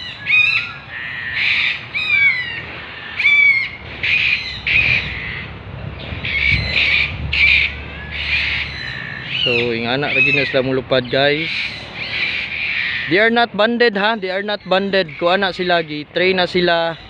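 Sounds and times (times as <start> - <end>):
macaws squawking: 0.0 - 17.0.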